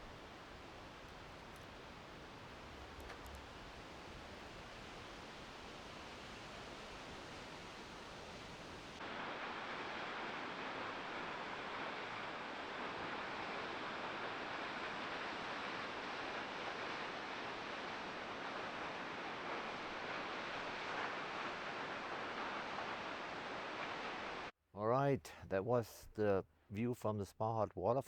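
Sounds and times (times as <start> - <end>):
waterfall roaring: 0.0 - 24.5.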